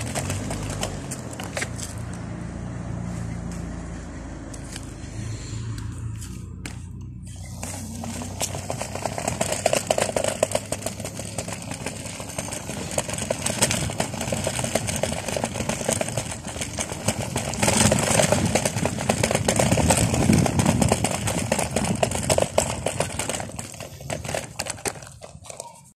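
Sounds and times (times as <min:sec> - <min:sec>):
rattling and clicking over bumps: 0:00.0 - 0:02.4, 0:05.8 - 0:26.0
electric scooter rolling on asphalt: 0:00.0 - 0:26.0.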